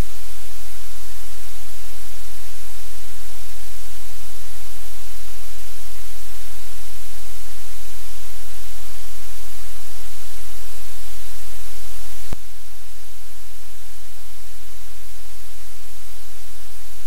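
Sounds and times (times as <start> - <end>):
static-like hiss: 0.0 - 17.0.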